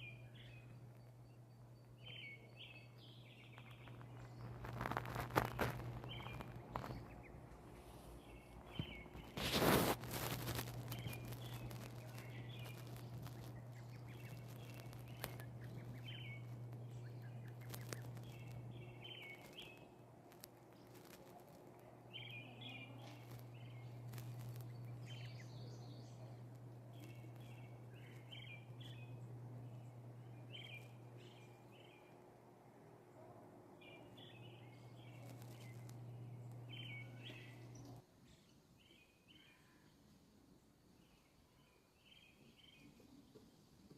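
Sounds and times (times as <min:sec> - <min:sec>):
steady low hum: 0:00.0 - 0:38.0
small birds chirping: 0:00.0 - 0:40.0.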